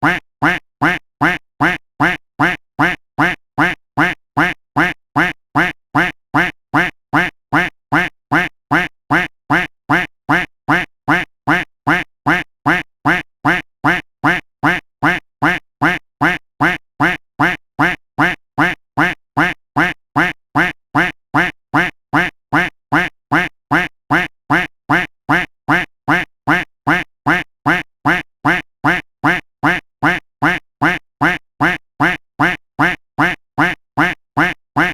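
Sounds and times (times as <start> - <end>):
duck quacking: 0.0 - 34.9.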